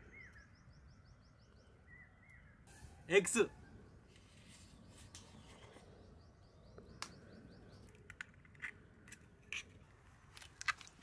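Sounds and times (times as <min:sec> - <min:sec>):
small bird chirping: 0:00.0 - 0:08.8.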